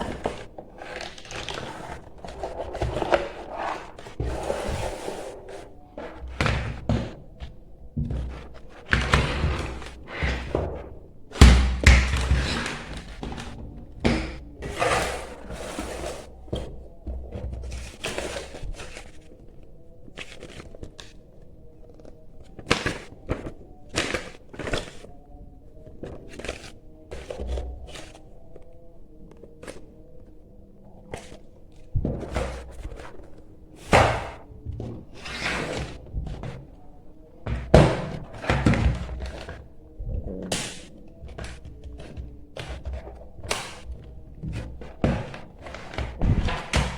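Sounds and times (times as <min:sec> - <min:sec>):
packaging handling noises: 0:00.0 - 0:46.9
quiet background music: 0:00.0 - 0:46.9.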